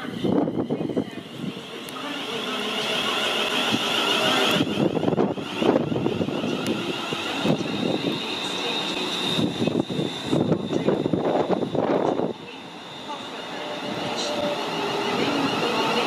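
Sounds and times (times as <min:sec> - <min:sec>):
electric train passing at speed: 0:00.0 - 0:16.0
train wheels whining on rails: 0:00.0 - 0:16.0.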